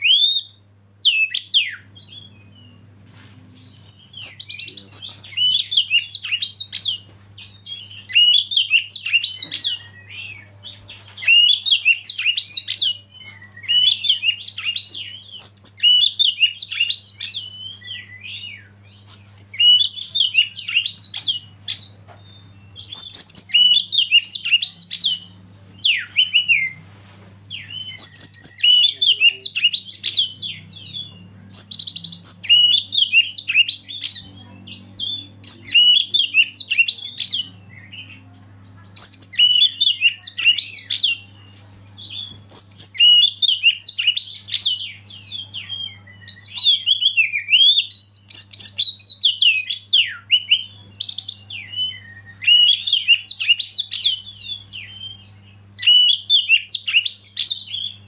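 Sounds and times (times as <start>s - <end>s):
bird singing whistled phrases: 0.0s - 2.8s, 4.1s - 26.8s, 27.5s - 41.3s, 42.0s - 58.0s
faint low hum: 0.0s - 58.0s.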